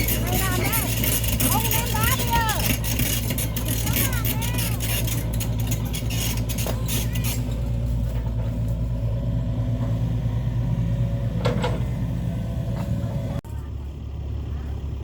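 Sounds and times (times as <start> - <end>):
motor engine humming: 0.0 - 15.0.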